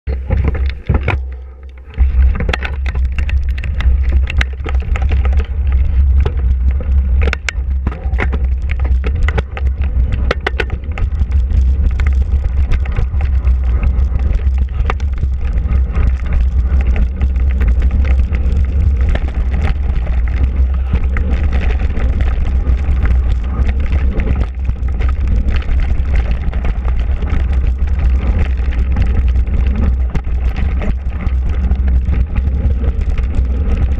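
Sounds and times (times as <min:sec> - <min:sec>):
bike rattles and knocks: 0:00.1 - 0:33.9
tyre noise on dirt: 0:00.1 - 0:33.9
wind buffeting microphone: 0:00.1 - 0:33.9.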